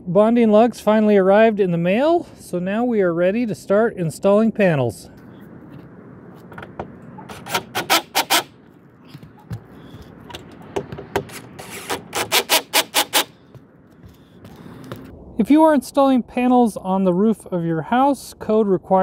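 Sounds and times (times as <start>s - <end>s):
faint steady background noise: 0.0s - 19.0s.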